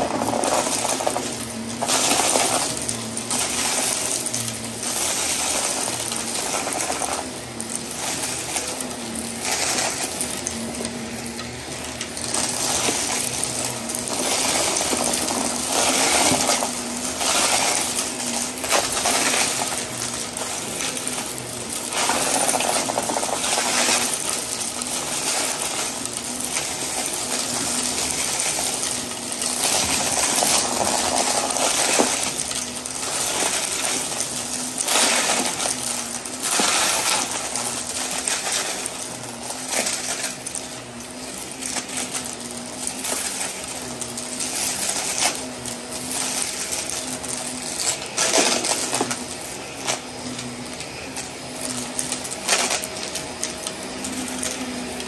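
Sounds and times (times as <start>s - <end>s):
debris rattling in vacuum hose: 0.0s - 55.0s
vacuum cleaner motor humming: 0.0s - 55.0s.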